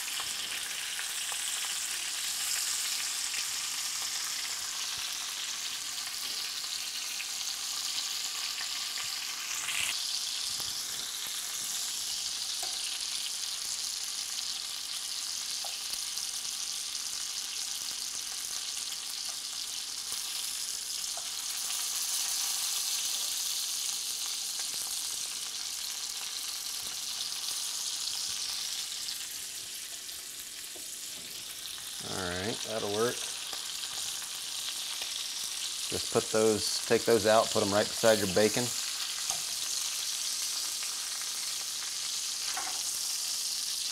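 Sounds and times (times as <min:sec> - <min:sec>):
meat sizzling in hot fat: 0:00.0 - 0:43.9.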